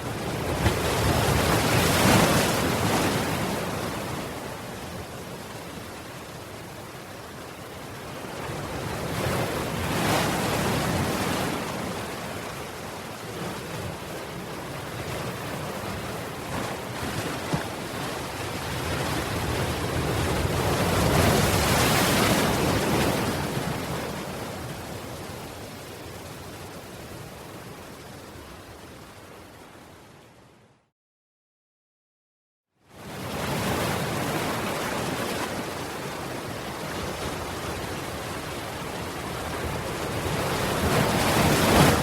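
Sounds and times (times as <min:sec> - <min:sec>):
ocean waves breaking on shore: 0:00.0 - 0:30.8, 0:32.9 - 0:42.0.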